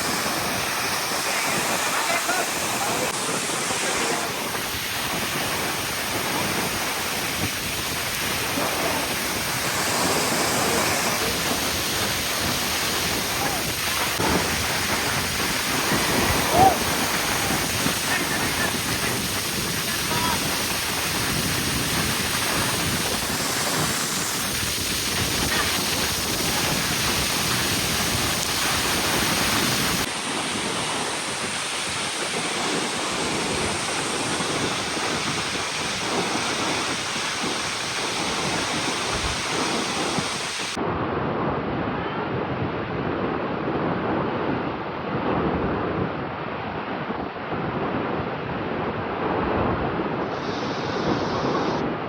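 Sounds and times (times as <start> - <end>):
waterfall rushing: 0.0 - 40.8, 50.2 - 51.8.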